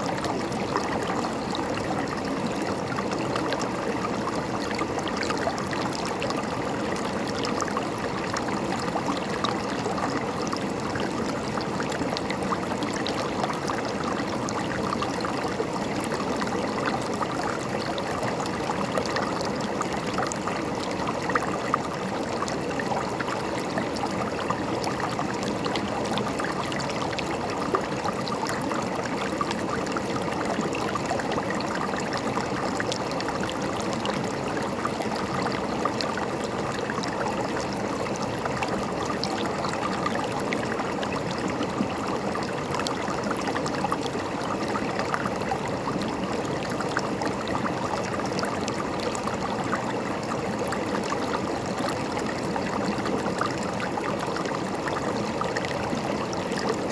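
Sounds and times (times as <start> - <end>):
river water gurgling over rocks: 0.0 - 56.9.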